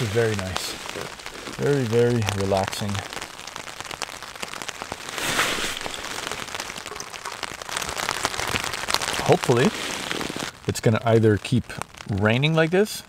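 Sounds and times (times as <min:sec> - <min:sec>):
rain on a tent: 0:00.0 - 0:13.0.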